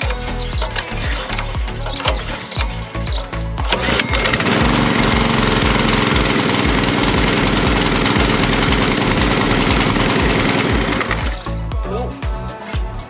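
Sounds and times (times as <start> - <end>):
pressure washer petrol engine: 0.0 - 11.7
background music with beat: 0.0 - 13.0.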